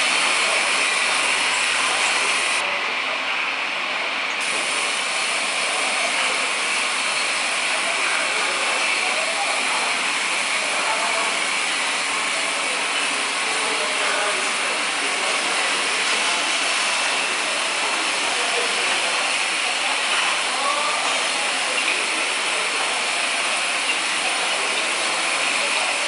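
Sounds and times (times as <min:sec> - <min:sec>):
bottle filling machine hissing: 0:00.0 - 0:02.6, 0:04.4 - 0:26.0.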